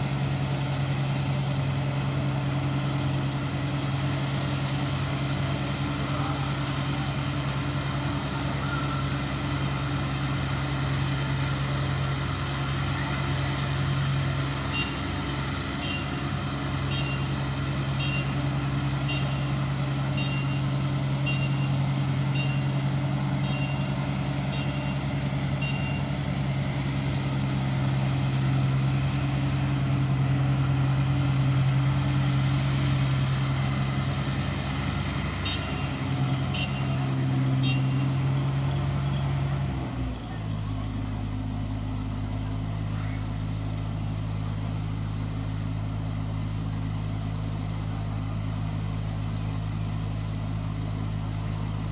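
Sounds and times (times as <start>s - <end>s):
combine harvester engine running: 0.0s - 51.9s.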